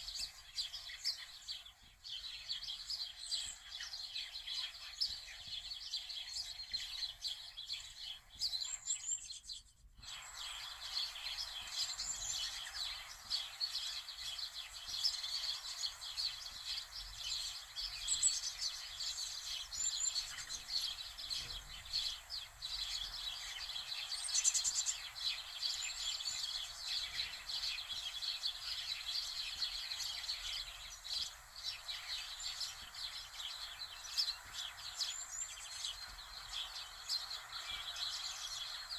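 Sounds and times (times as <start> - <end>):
steady hiss: 0.0 - 9.1, 10.0 - 38.9
small birds chirping: 0.0 - 38.9.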